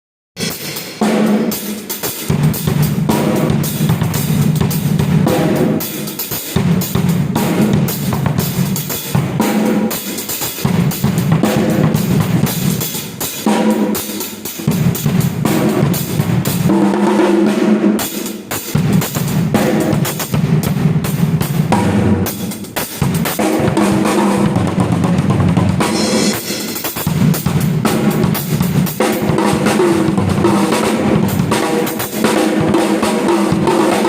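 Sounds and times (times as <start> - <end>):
drum kit playing: 0.4 - 34.0.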